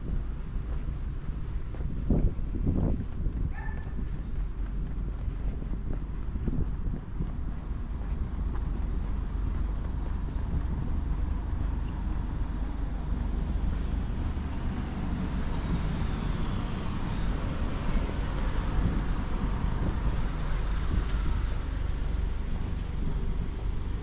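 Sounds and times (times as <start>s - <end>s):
road traffic going by: 0.0s - 24.0s.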